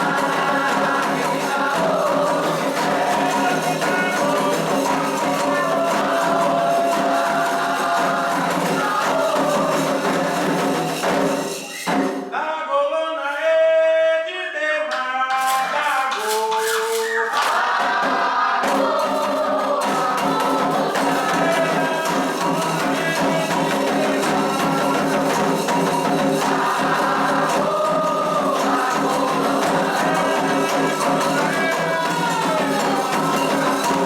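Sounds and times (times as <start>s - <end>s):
shaken and struck percussion: 0.0s - 12.4s, 14.9s - 34.0s
group singing: 0.0s - 34.0s.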